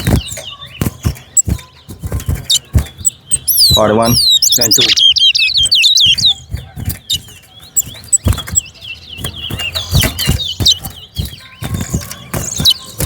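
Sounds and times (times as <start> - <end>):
finch warbling song: 0.0 - 13.0.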